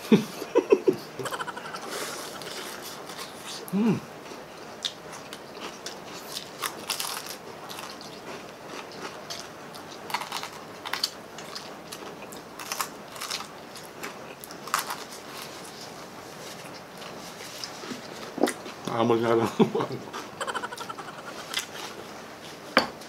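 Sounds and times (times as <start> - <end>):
crunching and chewing: 1.2 - 18.9, 20.0 - 22.6.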